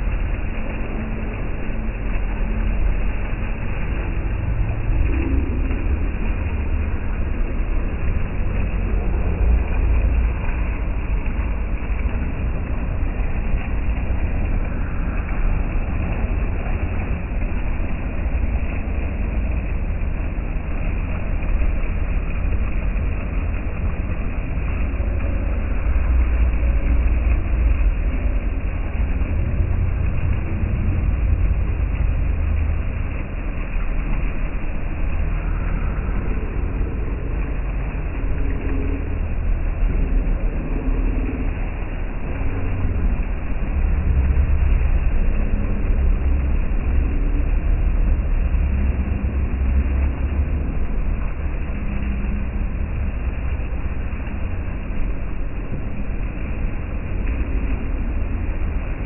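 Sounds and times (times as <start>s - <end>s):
deep rumble: 0.0s - 59.0s
fountain water splashing: 0.0s - 59.0s.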